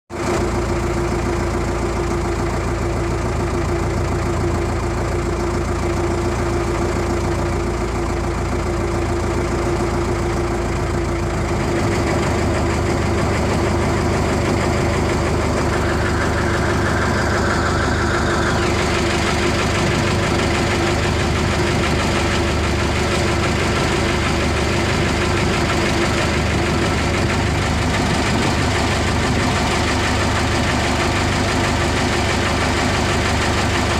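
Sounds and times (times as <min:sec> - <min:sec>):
boat engine running: 0:00.2 - 0:33.9.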